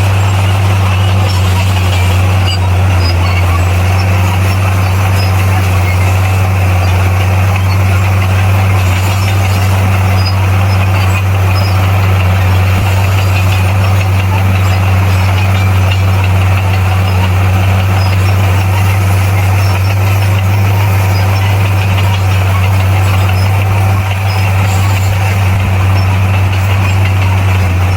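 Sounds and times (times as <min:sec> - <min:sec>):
bulldozer diesel engine running: 0:00.0 - 0:27.9.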